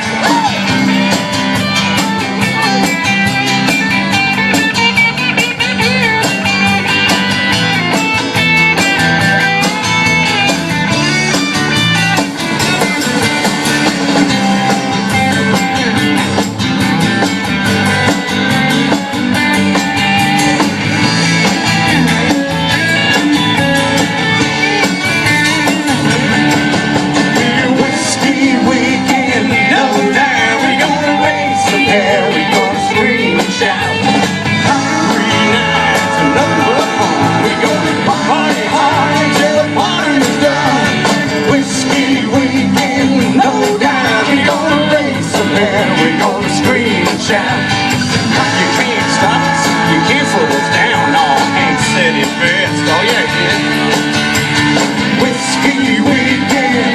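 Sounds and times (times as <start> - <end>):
country-rock band playing: 0.0 - 56.9
electric guitar: 0.0 - 56.9.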